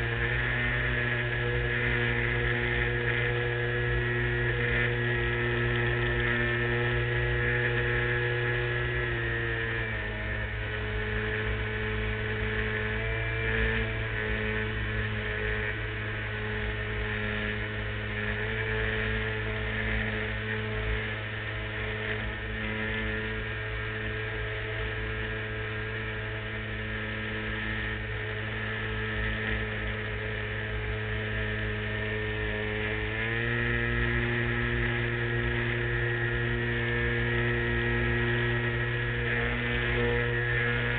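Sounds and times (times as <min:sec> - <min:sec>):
model airplane motor droning: 0:00.0 - 0:40.9.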